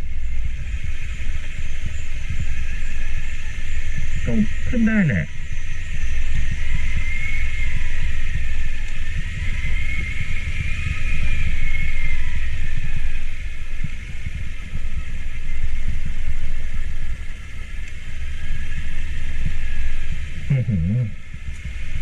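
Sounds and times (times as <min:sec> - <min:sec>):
high wavering whine: 0:00.0 - 0:22.0.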